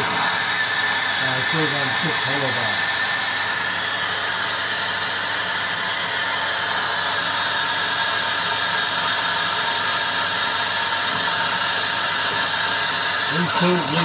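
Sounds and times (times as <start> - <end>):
metal lathe cutting: 0.0 - 14.0.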